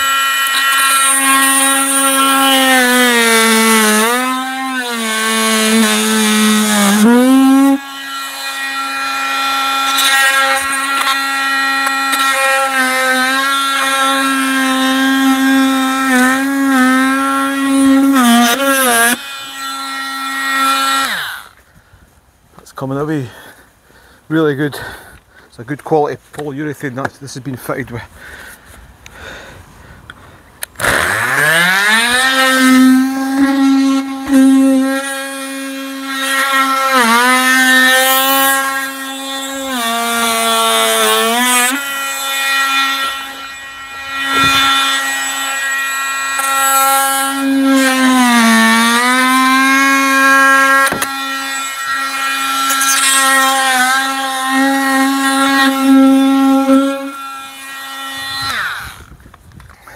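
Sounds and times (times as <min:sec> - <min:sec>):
oscillating multi-tool humming: 0:00.0 - 0:21.6, 0:30.6 - 0:59.8.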